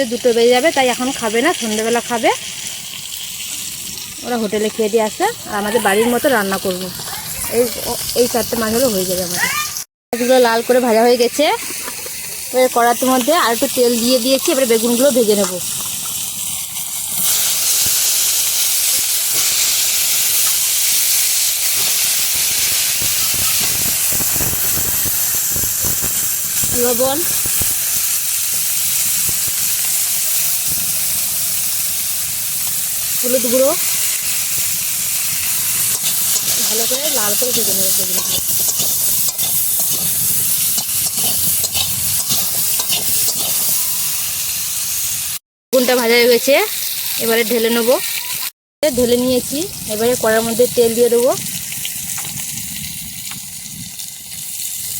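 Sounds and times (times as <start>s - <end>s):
vegetables sizzling in oil: 0.0s - 54.9s.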